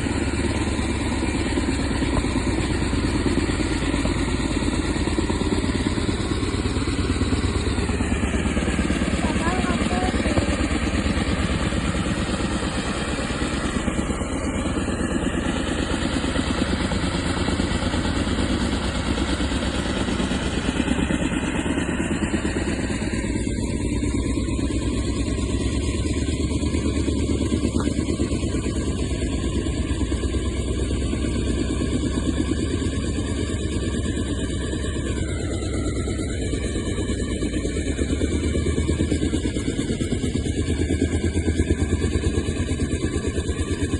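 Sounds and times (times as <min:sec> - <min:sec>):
helicopter engine: 0:00.0 - 0:43.9
helicopter rotor beating: 0:00.0 - 0:43.9.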